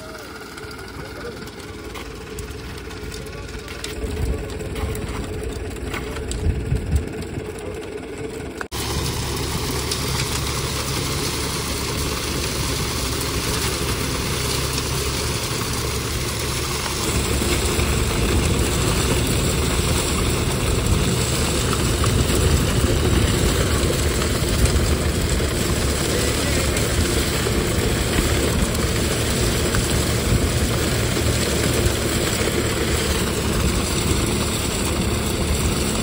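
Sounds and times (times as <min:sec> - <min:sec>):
wet concrete pouring and splashing: 0:00.0 - 0:07.1, 0:08.7 - 0:36.0
truck engine running: 0:00.0 - 0:36.0.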